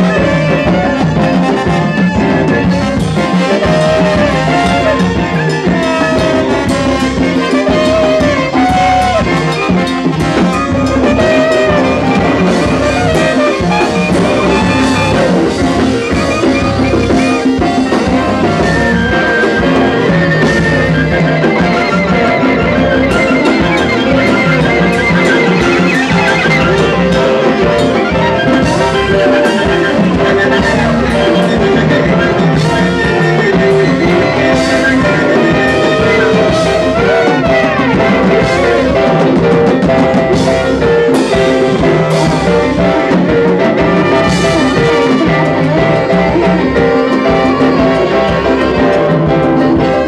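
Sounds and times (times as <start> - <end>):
live jazz ensemble: 0.0 - 50.0.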